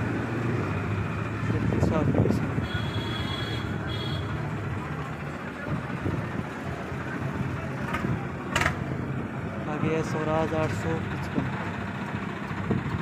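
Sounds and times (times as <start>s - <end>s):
tractor diesel engine idling: 0.9s - 13.0s.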